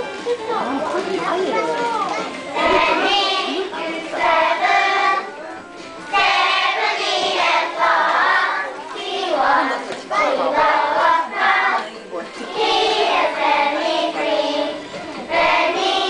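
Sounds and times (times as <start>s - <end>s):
children singing with karaoke: 1.4s - 16.0s.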